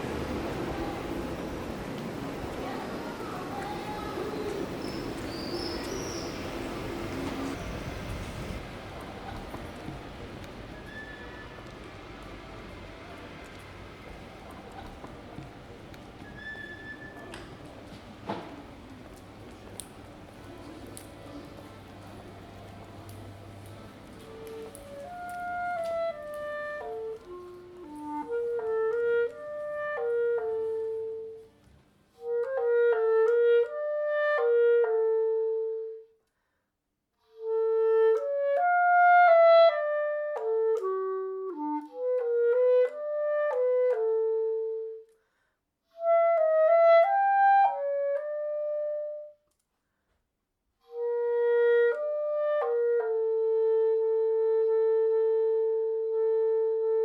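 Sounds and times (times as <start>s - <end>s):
wind instrument slow melody: 0.0s - 36.3s, 37.2s - 45.2s, 45.8s - 49.5s, 50.8s - 57.0s.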